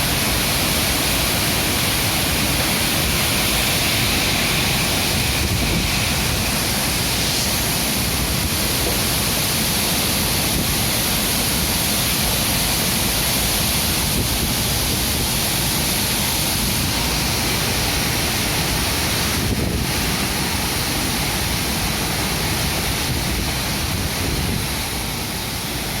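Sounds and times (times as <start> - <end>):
wind rushing through foliage: 0.0 - 26.0
wind rumbling on microphone: 1.7 - 11.6, 13.7 - 26.0.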